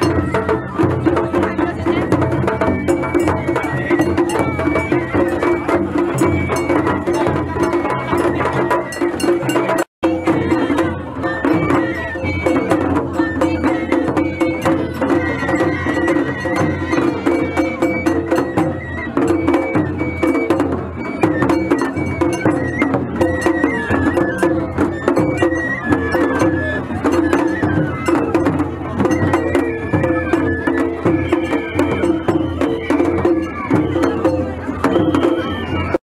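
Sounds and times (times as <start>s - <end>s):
bamboo flute melody: 0.0s - 36.0s
taiko drumming: 0.0s - 36.0s.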